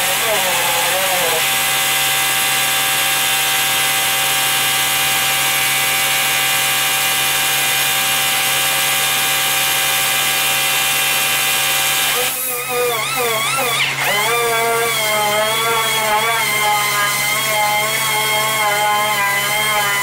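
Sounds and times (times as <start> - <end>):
pneumatic sander running: 0.0 - 20.0.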